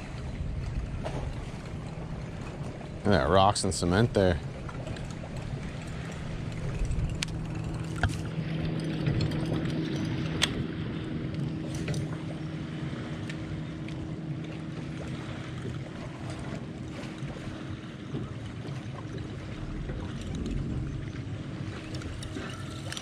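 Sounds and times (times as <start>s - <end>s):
electric trolling motor humming: 0.0s - 23.0s
water washing against hull: 0.0s - 23.0s.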